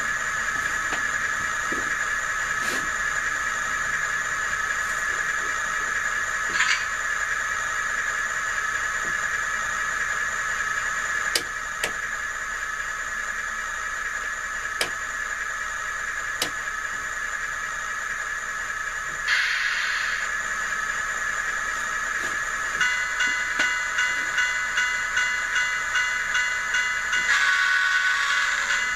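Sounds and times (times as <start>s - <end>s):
model locomotive diesel idle hum: 0.0s - 28.9s.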